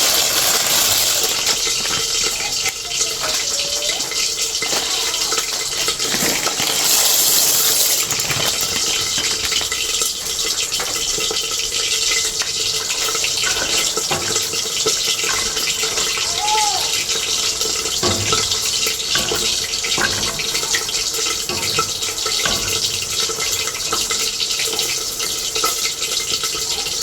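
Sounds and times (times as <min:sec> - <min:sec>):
water running: 0:00.0 - 0:26.0.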